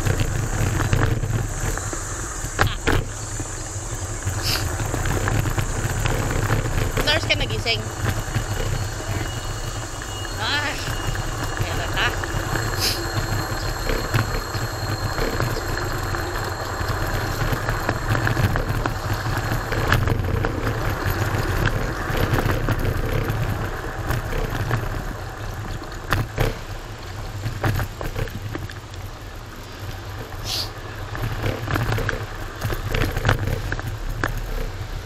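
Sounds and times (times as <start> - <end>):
scooter road and tyre noise: 0.0 - 35.0.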